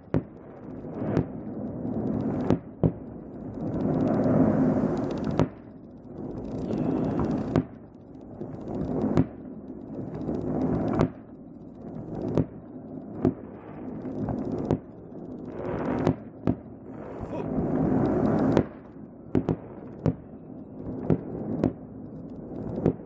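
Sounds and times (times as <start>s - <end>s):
fireworks bursting: 0.0s - 23.0s
steady background hiss: 3.0s - 23.0s.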